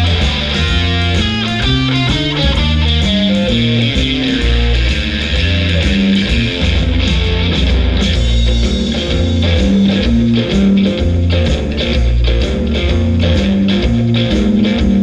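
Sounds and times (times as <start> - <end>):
electric guitar: 0.0 - 15.0
rhythmic bass line: 0.0 - 15.0
rock music: 0.0 - 15.0.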